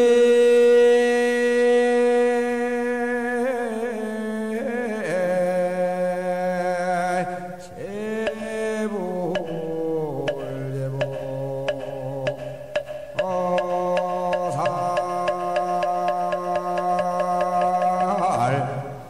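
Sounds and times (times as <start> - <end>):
monk chanting: 0.0 - 19.0.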